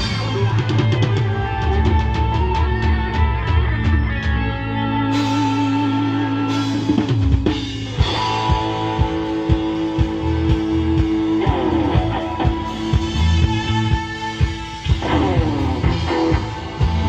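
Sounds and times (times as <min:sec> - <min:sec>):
held guitar notes: 0:00.0 - 0:17.0
live rock band playing: 0:00.0 - 0:17.0.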